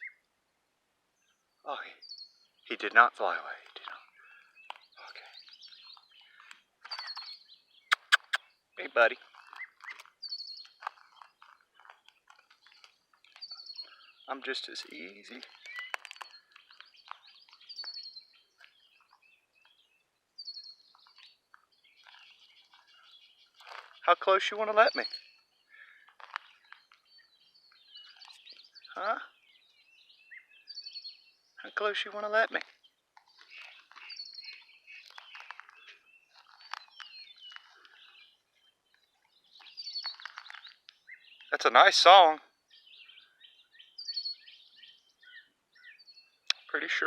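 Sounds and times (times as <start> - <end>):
blackbird singing: 0.0 - 0.2, 1.2 - 47.0
faint bird chirps: 0.0 - 0.3, 3.8 - 24.0, 24.8 - 32.0, 32.8 - 41.8, 42.7 - 47.0
birds trilling: 3.8 - 47.0.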